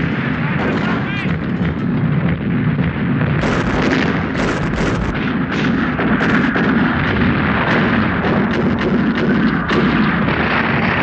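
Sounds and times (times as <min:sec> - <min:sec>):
shells exploding: 0:00.0 - 0:10.6
artillery guns firing: 0:00.0 - 0:11.0
continuous battle rumble: 0:00.0 - 0:11.0.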